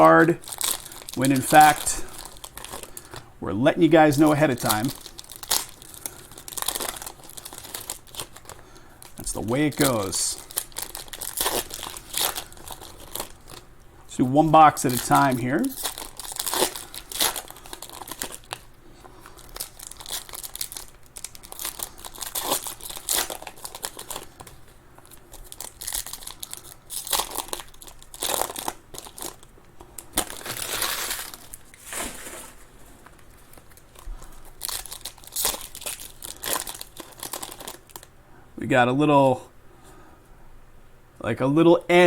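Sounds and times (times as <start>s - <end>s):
card pack wrappers crinkling: 0.0s - 38.1s.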